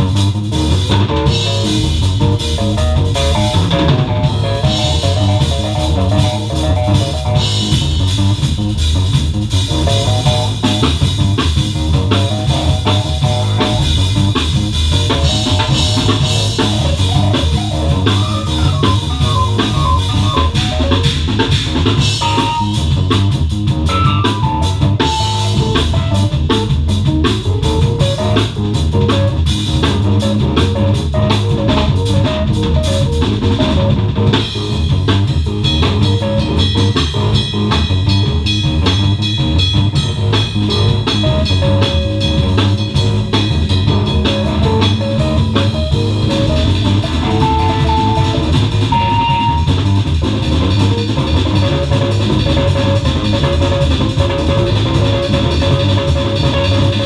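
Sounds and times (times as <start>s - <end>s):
bass line: 0.0s - 57.0s
drum kit: 0.0s - 57.0s
keyboard playing funk: 0.0s - 57.0s.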